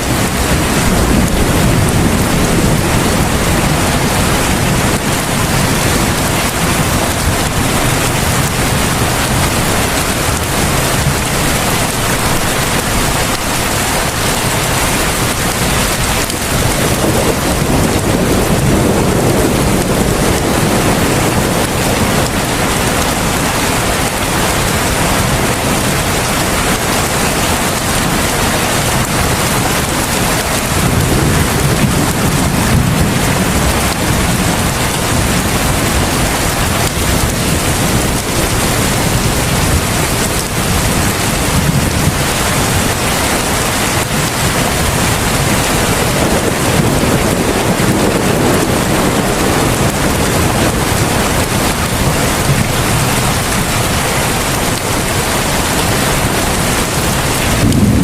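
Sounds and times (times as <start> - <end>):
heavy rain falling: 0.0 - 58.0
low rumbling: 0.0 - 58.0.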